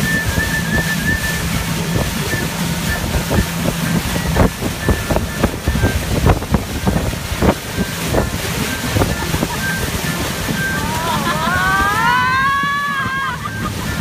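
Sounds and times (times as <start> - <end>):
motorboat engine hum: 0.0 - 14.0
wake water rushing: 0.0 - 14.0
wind buffeting microphone: 0.0 - 14.0.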